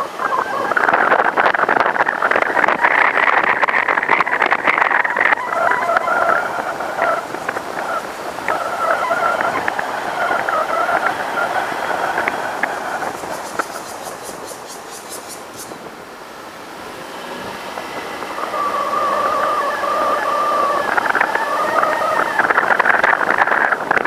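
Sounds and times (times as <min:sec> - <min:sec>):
car driving whine: 0:00.0 - 0:24.0.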